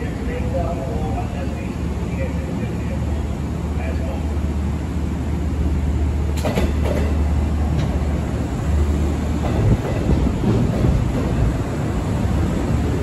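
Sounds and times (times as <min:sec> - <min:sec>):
low train hum: 0:00.0 - 0:13.0
train rolling: 0:00.0 - 0:13.0.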